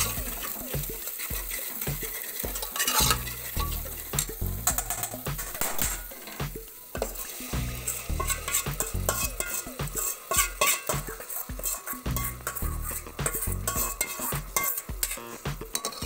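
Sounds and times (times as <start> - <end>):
steel spoon scraping a bowl: 0.0 - 6.4, 7.0 - 16.0.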